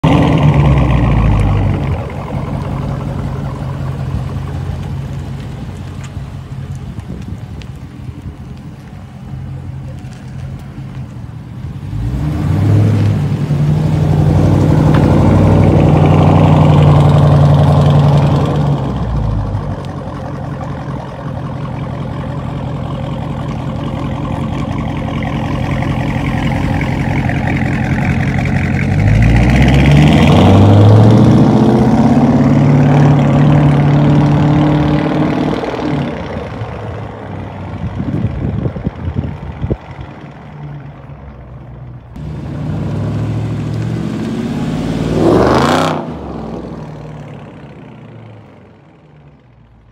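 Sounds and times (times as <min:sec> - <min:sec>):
car driving by: 0:00.0 - 0:49.9
car exhaust roar: 0:00.0 - 0:49.9.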